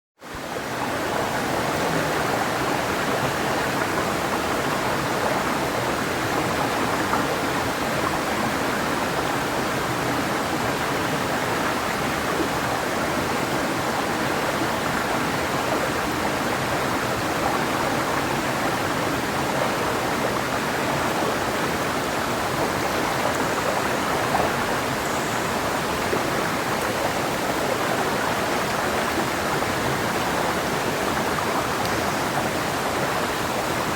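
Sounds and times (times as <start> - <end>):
river flowing over rocks: 0.2 - 33.9.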